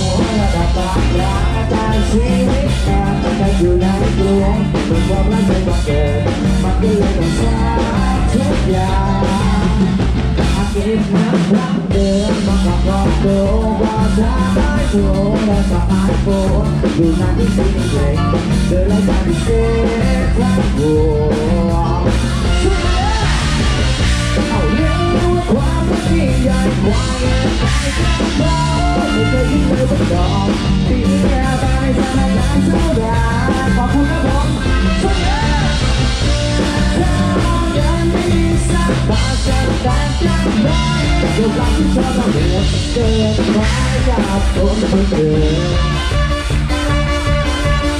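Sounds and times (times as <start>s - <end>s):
band playing dance tune: 0.0s - 47.9s
man singing: 0.0s - 47.9s.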